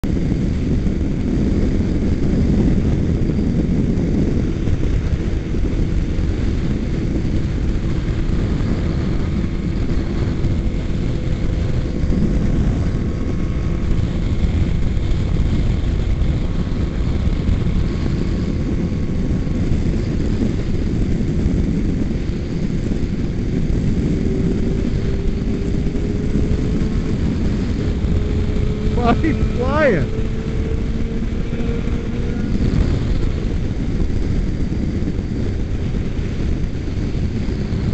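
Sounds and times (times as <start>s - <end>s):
motorcycle engine drone: 0.0s - 37.9s
wind rushing on microphone: 0.0s - 37.9s.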